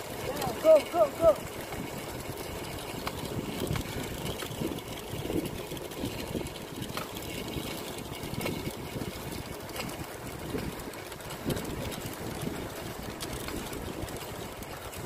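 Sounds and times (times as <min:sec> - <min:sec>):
road rumble: 0:00.0 - 0:15.0
wind buffeting microphone: 0:00.0 - 0:15.0.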